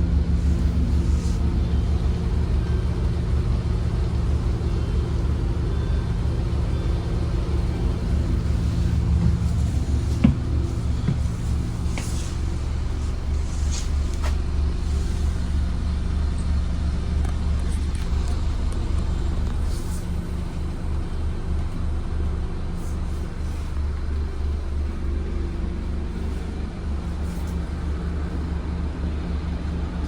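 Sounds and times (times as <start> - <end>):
bus diesel engine droning: 0.0 - 30.0.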